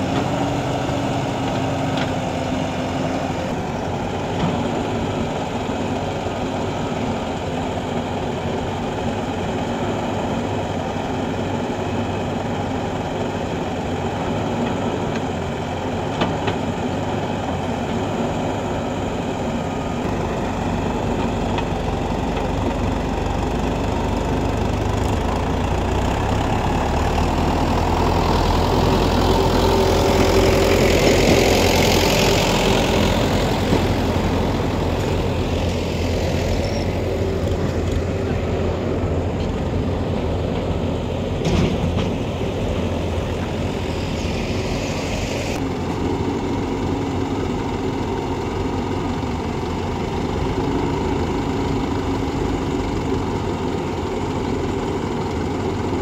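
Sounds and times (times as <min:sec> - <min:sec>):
diesel engines rumbling: 0:00.0 - 0:56.0.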